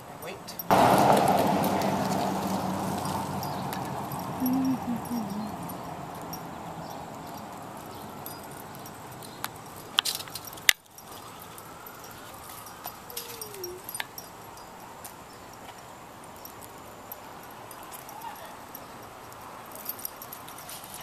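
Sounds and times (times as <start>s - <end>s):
dog collar and leash clinking: 0.0s - 21.0s
outdoor street noise: 0.0s - 21.0s.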